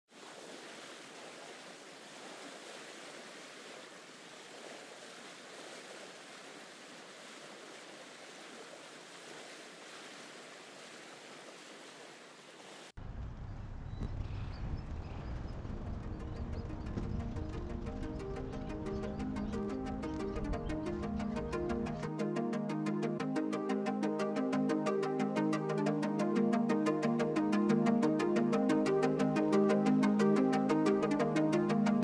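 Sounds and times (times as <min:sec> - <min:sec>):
sea waves and surf: 0:00.1 - 0:13.0, 0:15.0 - 0:32.0.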